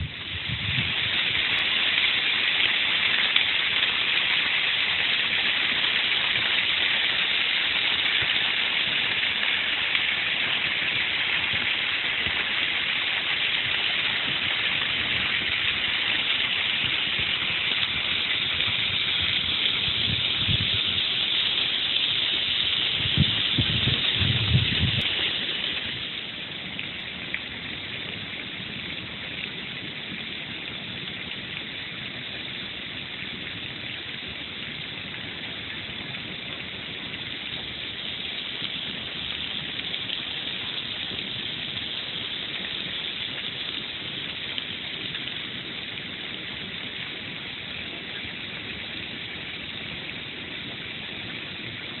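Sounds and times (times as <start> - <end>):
water splashing into a pond: 0.0 - 52.0.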